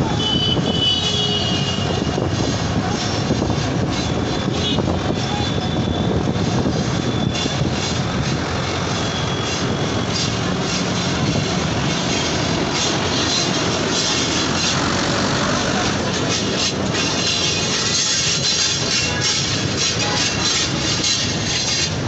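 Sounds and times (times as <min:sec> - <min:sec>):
road rumbling: 0:00.0 - 0:22.0
rickshaw motor running: 0:01.0 - 0:22.0.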